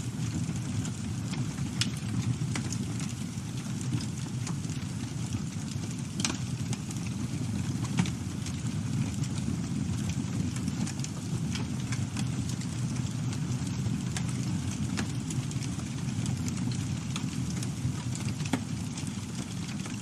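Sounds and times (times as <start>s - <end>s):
campfire crackles and pops: 0.0s - 20.0s
low rumble of flames: 0.0s - 20.0s.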